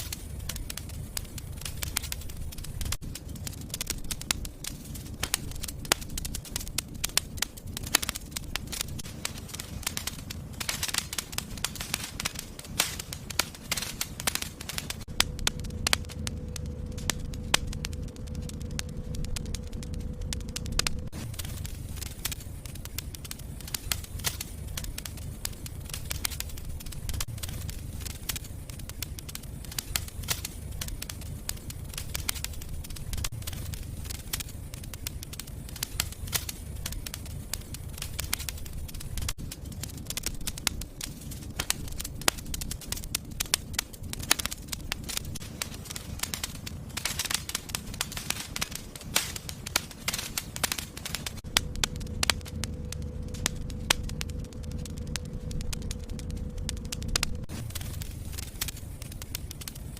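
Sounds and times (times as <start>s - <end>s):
fireplace fire crackling: 0.0s - 59.9s
low rumble of flames: 0.0s - 59.9s.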